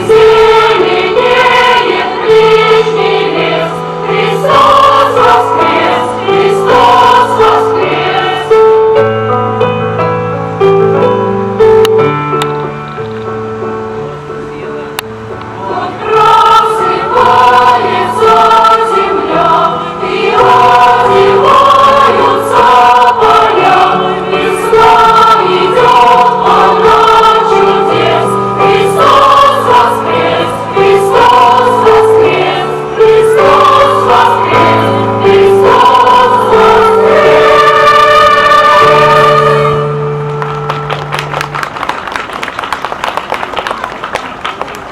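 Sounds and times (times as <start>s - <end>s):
choir singing sustained chords: 0.0s - 11.7s, 13.6s - 40.6s.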